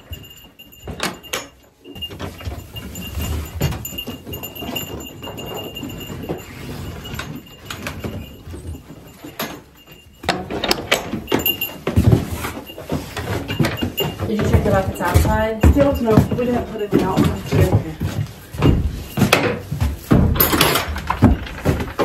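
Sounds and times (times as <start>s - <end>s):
wooden gates and latches clicking: 0.0s - 17.7s, 18.3s - 22.0s
handling noise: 0.0s - 22.0s.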